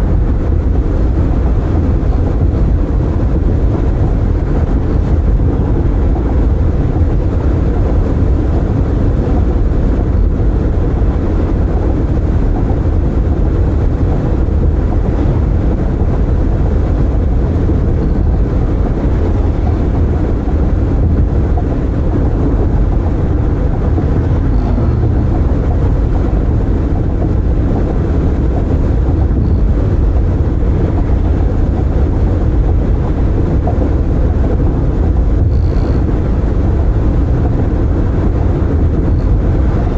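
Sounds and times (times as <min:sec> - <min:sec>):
car tyre and wind rumble: 0:00.0 - 0:39.9.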